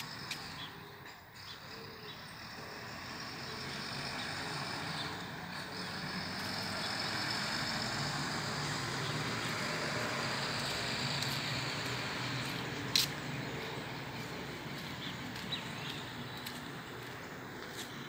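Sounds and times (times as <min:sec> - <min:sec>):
vehicle engine and tyres: 0:00.0 - 0:18.0.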